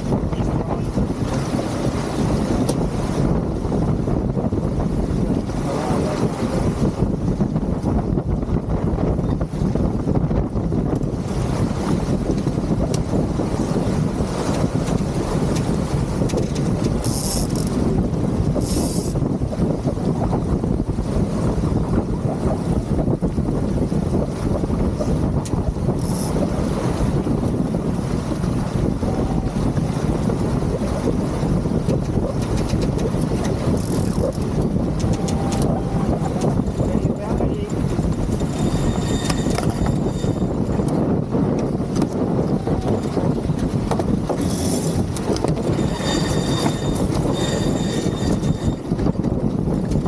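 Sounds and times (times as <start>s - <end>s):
water rushing past a hull: 0.0s - 50.0s
wind buffeting microphone: 0.0s - 50.0s.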